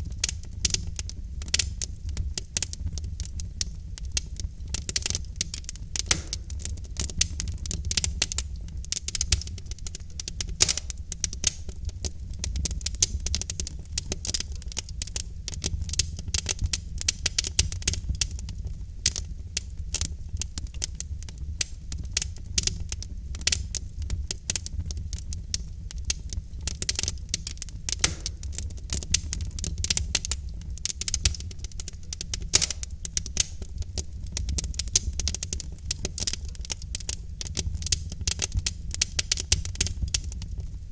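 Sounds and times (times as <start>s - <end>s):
burning logs popping and snapping: 0.0s - 40.9s
low rumble of flames: 0.0s - 40.9s.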